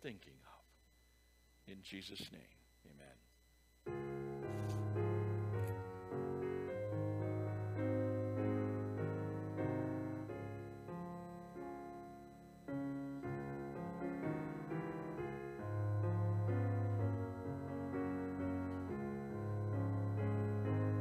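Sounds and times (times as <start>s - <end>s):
slow piano chords: 3.9s - 21.0s.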